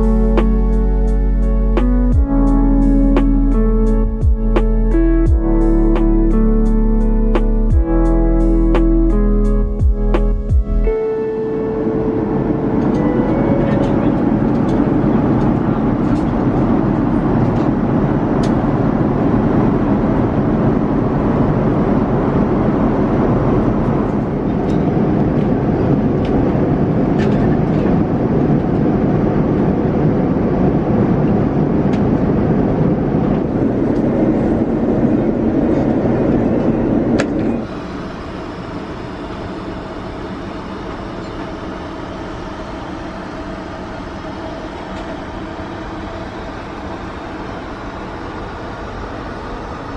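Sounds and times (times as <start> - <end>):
airplane cabin rumble: 0.0 - 49.9.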